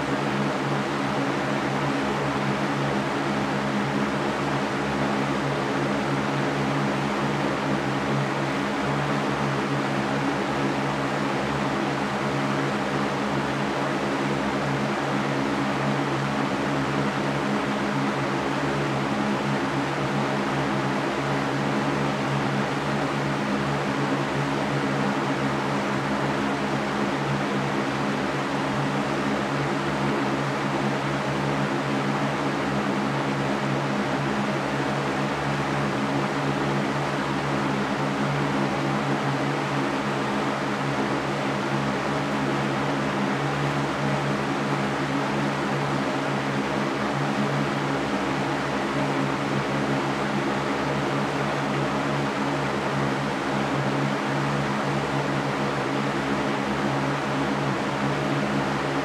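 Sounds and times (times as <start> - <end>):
floor fan running: 0.0 - 59.0.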